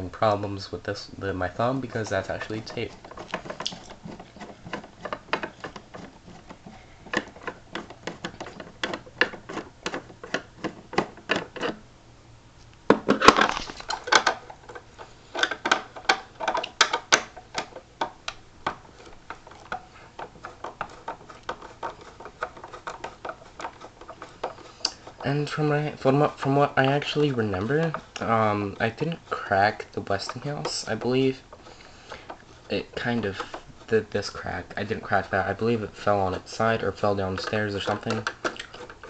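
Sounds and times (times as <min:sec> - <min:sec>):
plastic parts rattling: 0:00.0 - 0:11.8, 0:12.9 - 0:39.0.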